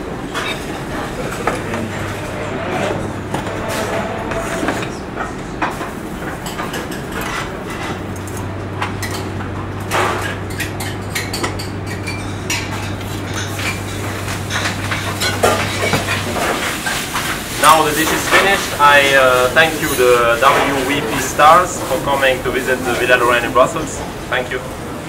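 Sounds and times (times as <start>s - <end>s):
steady low hum: 0.0s - 25.0s
plates and utensils clinking: 0.2s - 24.6s.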